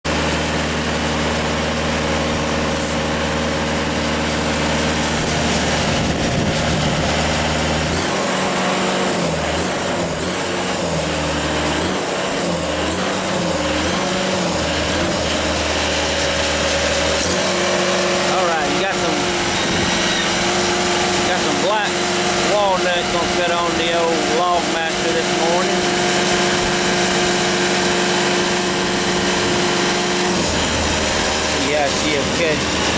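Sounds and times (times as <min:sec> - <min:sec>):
sawmill engine running: 0:00.0 - 0:32.9.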